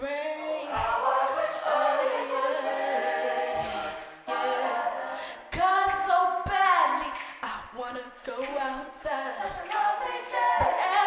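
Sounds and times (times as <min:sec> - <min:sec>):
vocal group singing in harmony: 0:00.0 - 0:11.0.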